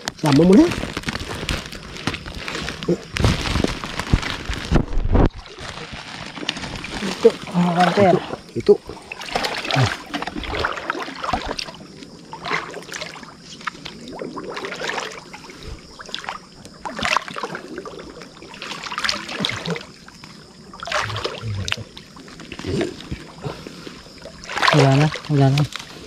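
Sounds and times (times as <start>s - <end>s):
footsteps wading through water: 0.0s - 26.0s.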